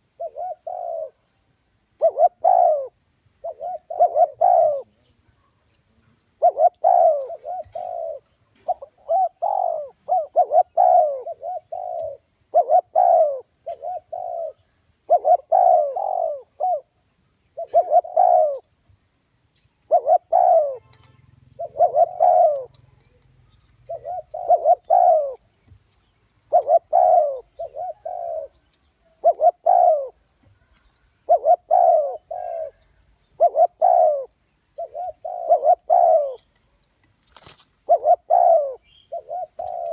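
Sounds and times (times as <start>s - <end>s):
dove cooing: 0.0s - 1.3s, 2.0s - 5.0s, 6.4s - 18.7s, 19.8s - 36.5s, 37.3s - 39.9s.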